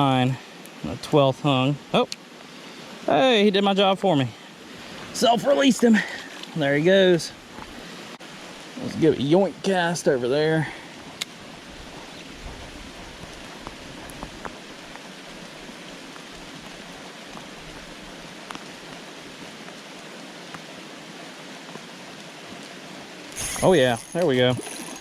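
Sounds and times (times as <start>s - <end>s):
flowing creek: 0.0s - 25.0s
rain hissing: 0.0s - 25.0s.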